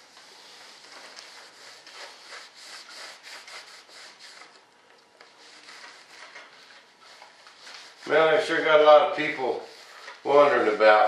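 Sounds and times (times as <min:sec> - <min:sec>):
cloth rubbing on foam: 0:00.0 - 0:04.5, 0:05.4 - 0:11.0.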